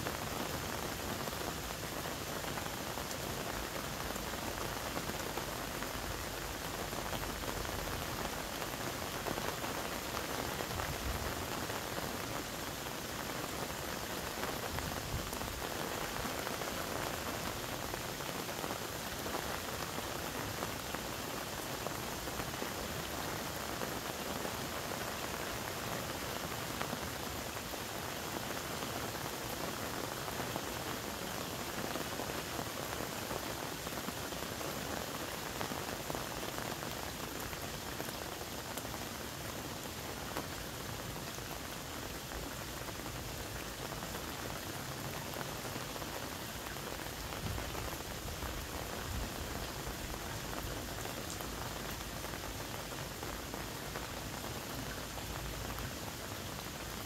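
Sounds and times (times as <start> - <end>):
patter of falling water: 0.0 - 57.0.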